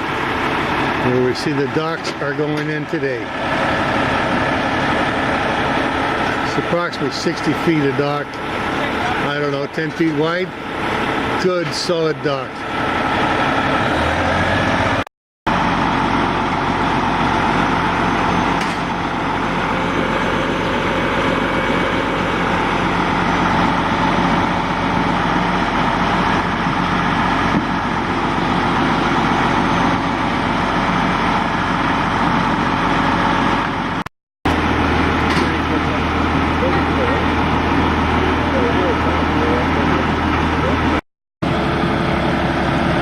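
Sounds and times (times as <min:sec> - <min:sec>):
heavy vehicle engine running: 0:00.0 - 0:43.0.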